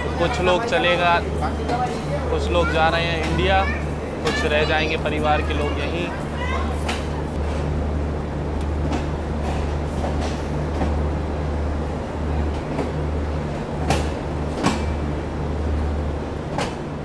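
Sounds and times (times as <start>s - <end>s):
train rumbling slowly: 0.0s - 17.0s.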